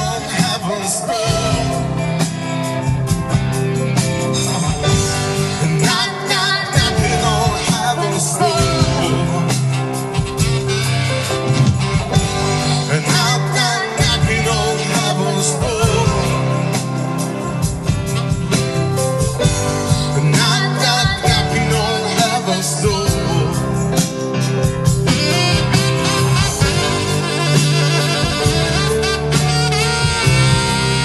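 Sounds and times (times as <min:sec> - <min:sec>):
person singing: 0:00.0 - 0:03.6, 0:04.2 - 0:11.0, 0:12.0 - 0:18.5, 0:19.2 - 0:31.0
driving drum beat: 0:00.0 - 0:31.0
guitar: 0:00.0 - 0:31.0.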